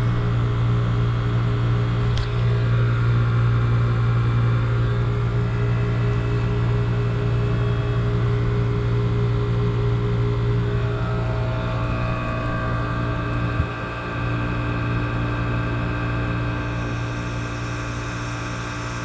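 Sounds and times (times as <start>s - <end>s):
heat pump compressor humming: 0.0s - 19.0s.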